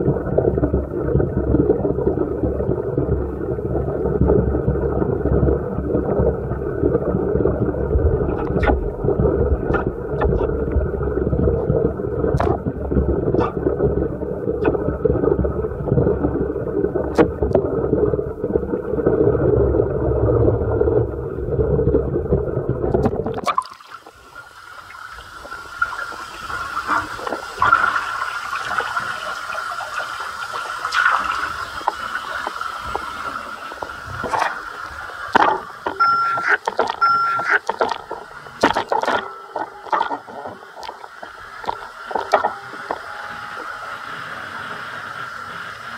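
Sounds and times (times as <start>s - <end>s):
muffled underwater rumble: 0.0s - 23.5s, 24.1s - 45.9s.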